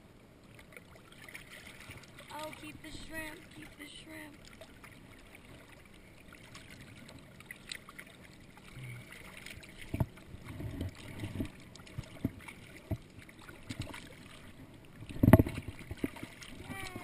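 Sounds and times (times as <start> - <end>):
water lapping against a paddleboard: 0.4 - 17.0.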